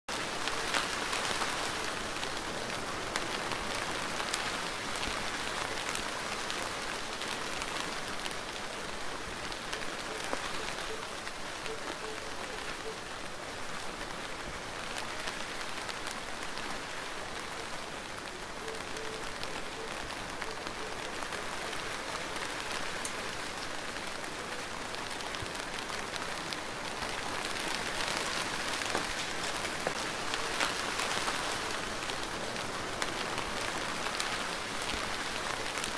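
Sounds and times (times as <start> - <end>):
raindrops pattering close by: 0.1 - 35.9
steady rain falling: 0.1 - 35.9.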